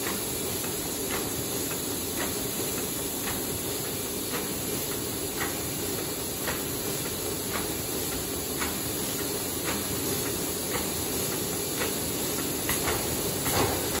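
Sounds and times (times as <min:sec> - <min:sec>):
machine running with hiss: 0:00.0 - 0:14.0.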